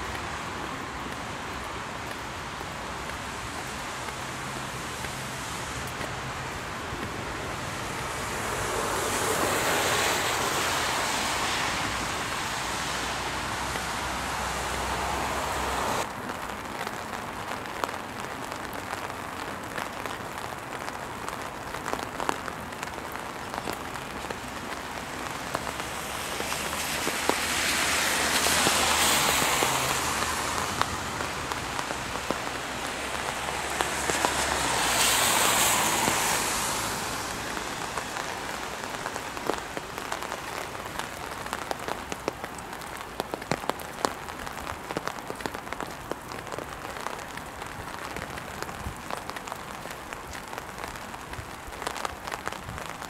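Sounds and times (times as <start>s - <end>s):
raindrops ticking: 0.0s - 10.2s, 16.0s - 53.0s
tyres hissing on wet road: 0.0s - 53.0s.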